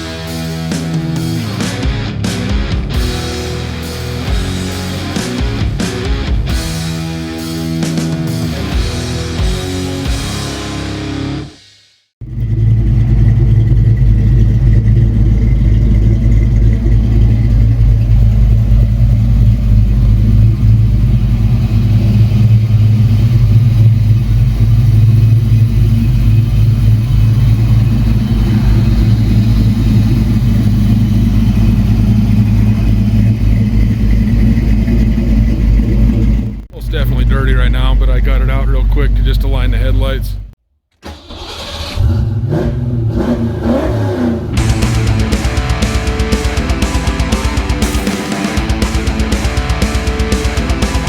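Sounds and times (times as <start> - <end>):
car engine running deep: 0.0 - 11.4, 12.2 - 40.6, 41.6 - 51.0
rock music: 0.0 - 11.8, 16.7 - 40.4, 44.6 - 51.0.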